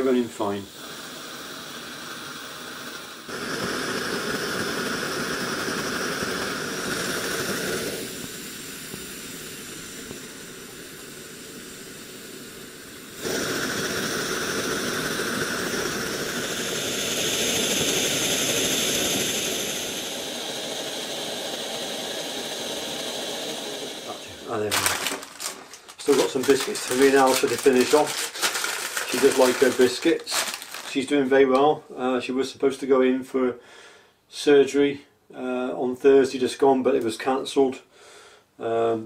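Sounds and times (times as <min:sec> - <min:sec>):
stove burner hissing: 0:00.0 - 0:31.7.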